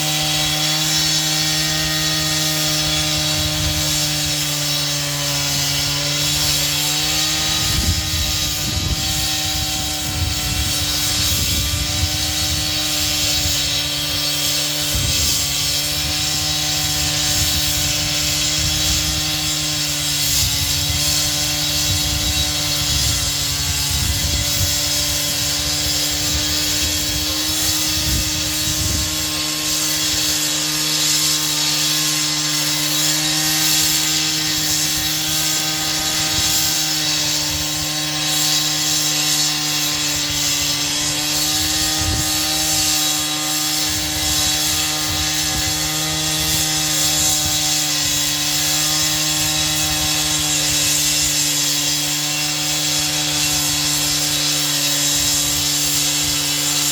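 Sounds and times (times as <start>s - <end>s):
power saw cutting: 0.0s - 56.9s.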